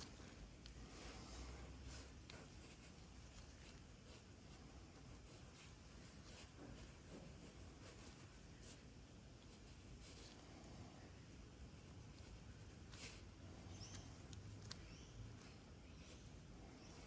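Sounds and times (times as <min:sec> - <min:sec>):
scratchy handling rustling: 0:00.0 - 0:17.0.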